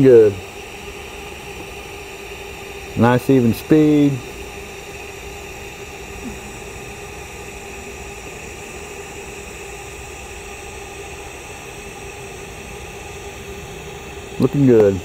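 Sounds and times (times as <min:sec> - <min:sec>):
faint constant hum: 0:00.0 - 0:15.0
welding arc hissing: 0:00.0 - 0:15.0.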